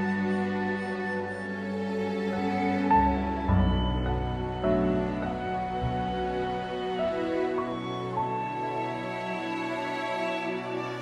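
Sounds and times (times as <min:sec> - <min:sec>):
soft slow instrumental music: 0:00.0 - 0:11.0.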